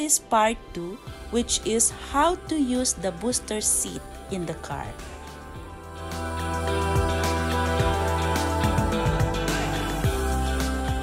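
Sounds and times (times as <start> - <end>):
background music with bass: 0.7 - 11.0.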